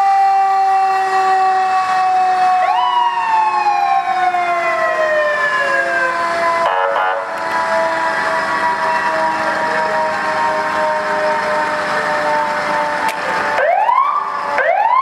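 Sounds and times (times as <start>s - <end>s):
fire engine siren winding down: 0.0s - 15.0s.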